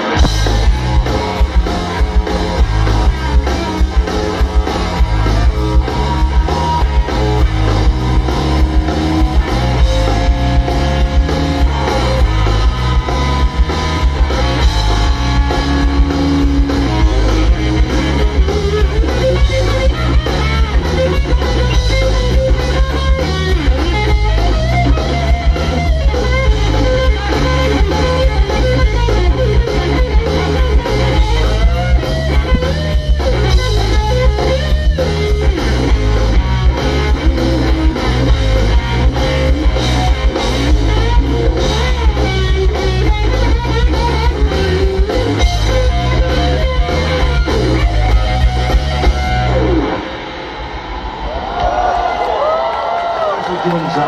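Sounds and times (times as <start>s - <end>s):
live rock band: 0.0s - 54.0s.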